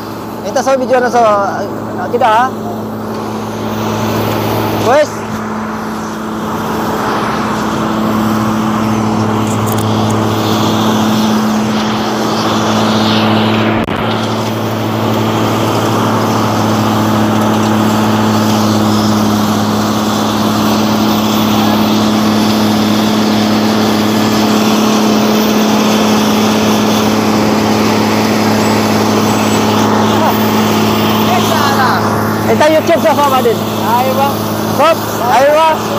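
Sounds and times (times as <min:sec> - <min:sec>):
milling machine diesel drone: 0:00.0 - 0:35.9
steady low hum: 0:00.0 - 0:35.9.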